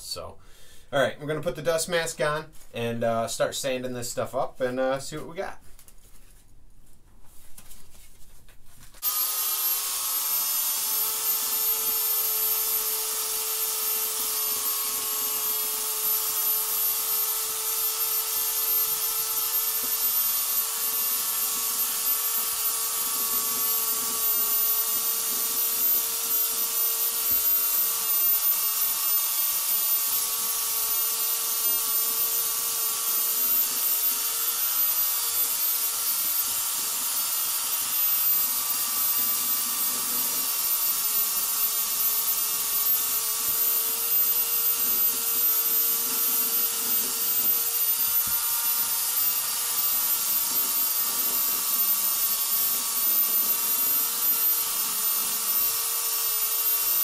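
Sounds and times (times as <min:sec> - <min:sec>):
finger sander motor whine: 0:09.0 - 0:57.0.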